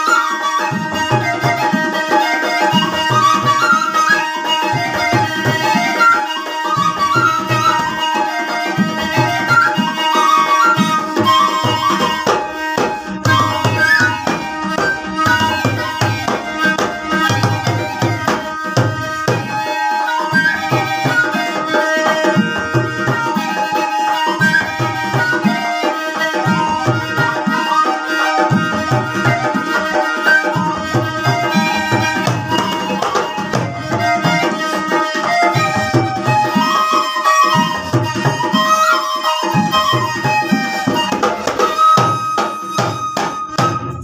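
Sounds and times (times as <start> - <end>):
hand drum beating rhythm: 0.0 - 44.0
paired duct flutes playing folk tune: 0.0 - 44.0.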